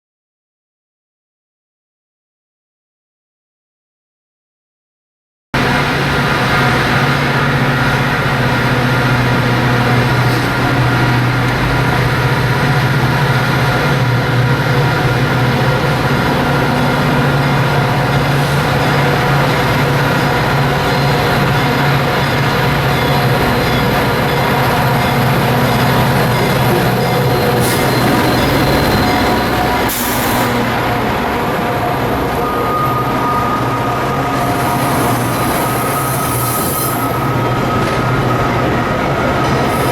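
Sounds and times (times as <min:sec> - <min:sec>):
diesel locomotive engine drone: 0:05.6 - 0:39.9
rail yard noise: 0:05.6 - 0:39.9.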